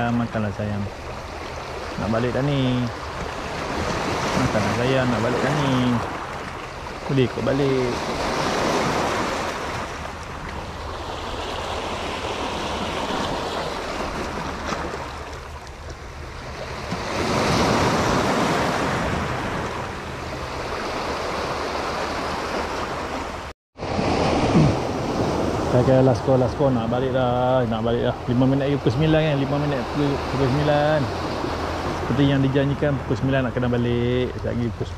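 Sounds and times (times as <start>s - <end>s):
sea waves breaking on breakwater: 0.0s - 34.9s.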